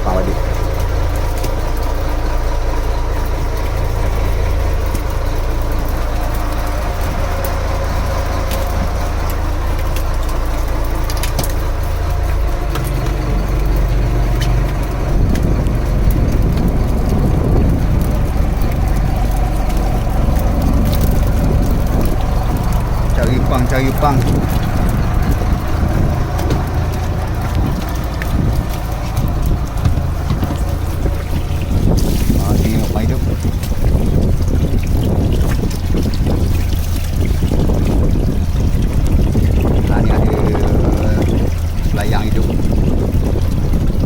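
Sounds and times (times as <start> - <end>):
boat engine running: 0.0 - 44.0.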